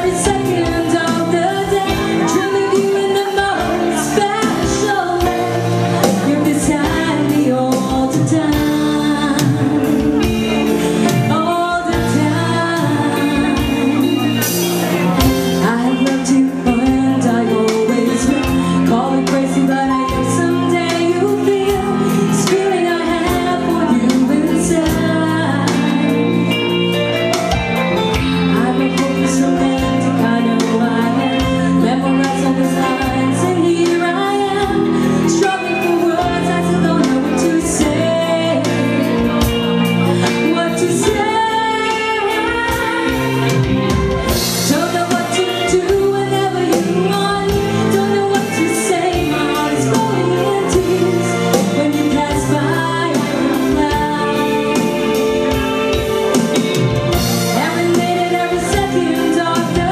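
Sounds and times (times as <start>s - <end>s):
drums steady beat: 0.0s - 59.9s
live band playing pop ballad: 0.0s - 59.9s
person singing: 0.0s - 59.9s.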